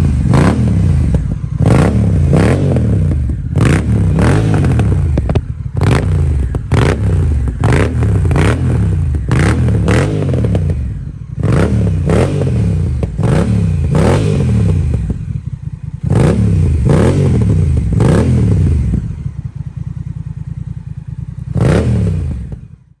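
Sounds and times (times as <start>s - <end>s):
motorcycle engine idling: 0.0s - 23.0s
motorcycle engine revving: 0.0s - 23.0s.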